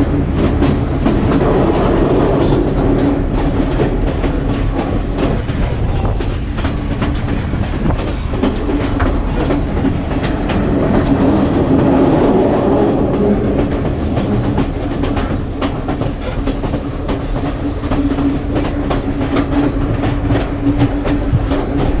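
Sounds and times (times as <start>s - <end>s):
track clicks and clacks: 0.0s - 22.0s
train wheels rumbling on rails: 0.0s - 22.0s.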